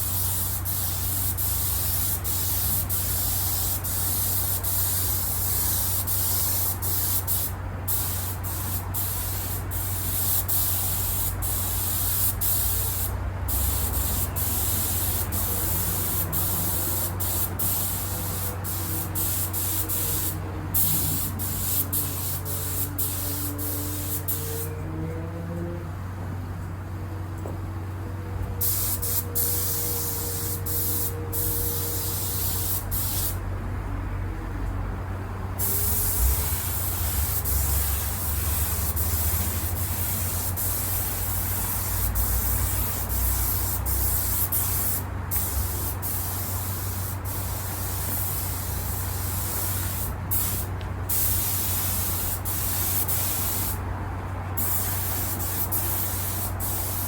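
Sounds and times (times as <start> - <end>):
spray gun hissing: 0.0 - 24.7, 28.6 - 33.4, 35.6 - 53.8, 54.6 - 57.0.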